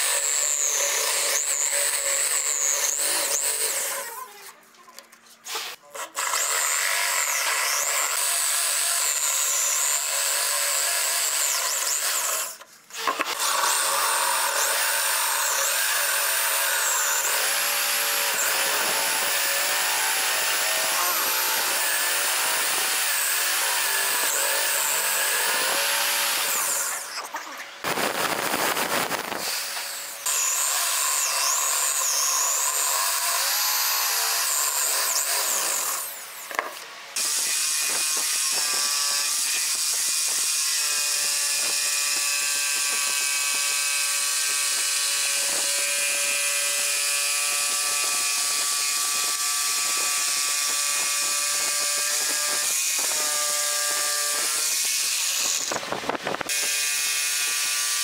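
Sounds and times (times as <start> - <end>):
electric drill boring into wood: 0.0 - 4.3, 5.5 - 58.0
rough noisy grinding sound: 0.0 - 4.5, 5.4 - 58.0.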